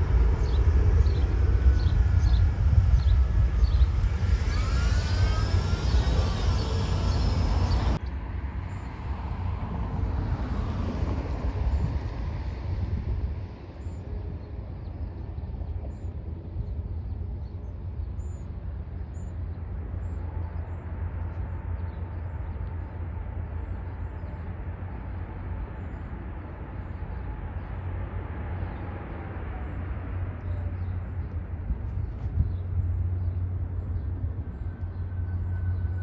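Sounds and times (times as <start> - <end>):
distant jet airliners rumbling: 0.0 - 36.0
faint engine whine: 0.0 - 36.0.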